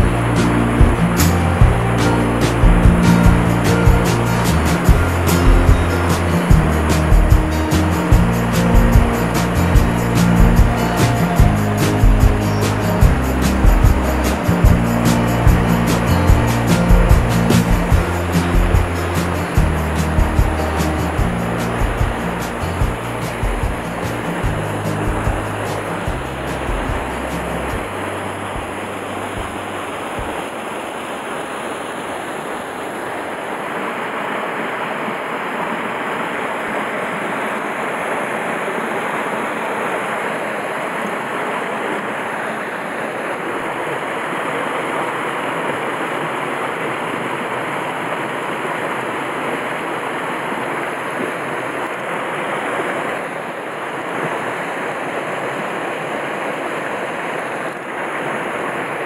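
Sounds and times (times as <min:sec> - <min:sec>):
stream water cascading over rocks: 0:00.0 - 0:59.0.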